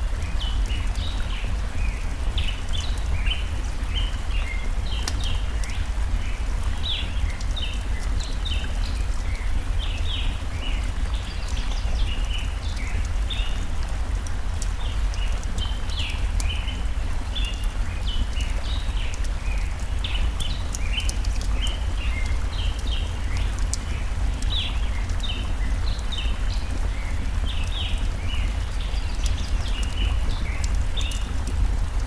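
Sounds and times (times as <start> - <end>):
campfire crackling: 0.0 - 32.0
stream running: 0.0 - 32.0.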